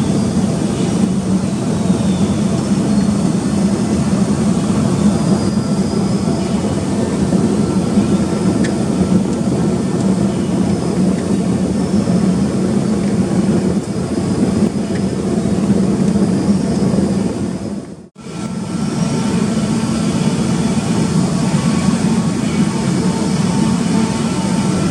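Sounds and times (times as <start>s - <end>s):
machinery noise: 0.0s - 15.4s, 18.2s - 24.9s
diesel engine drone: 0.0s - 24.9s.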